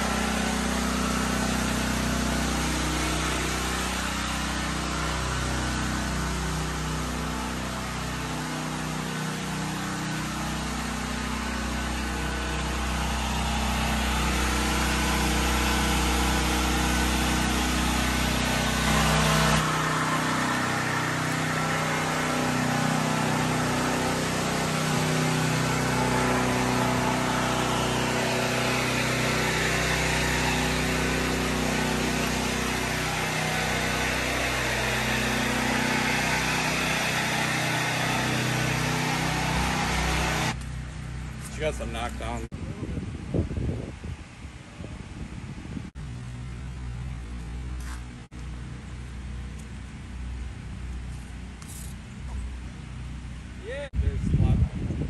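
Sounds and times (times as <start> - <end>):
small engines droning: 0.0 - 42.6, 44.3 - 54.2.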